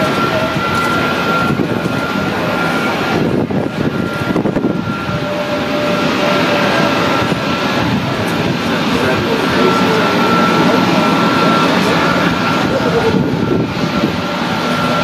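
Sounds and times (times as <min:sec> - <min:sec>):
jet engines rushing and whining: 0:00.0 - 0:15.0.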